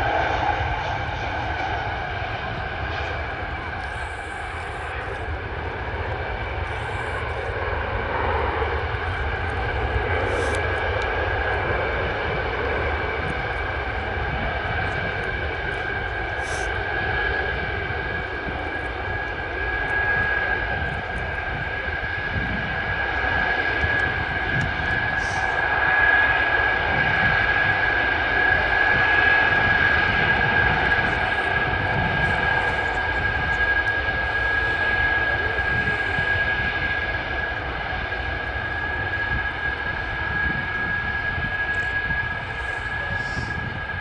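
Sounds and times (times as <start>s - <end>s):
jet engines whining and rumbling: 0.0s - 44.0s.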